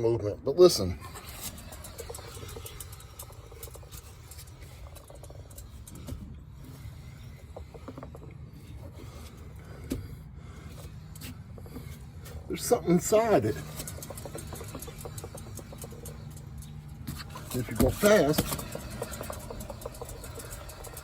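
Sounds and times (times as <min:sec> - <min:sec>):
wheel turning with low rumble: 0:00.0 - 0:21.0
loose piece rattling in tire: 0:01.0 - 0:21.0.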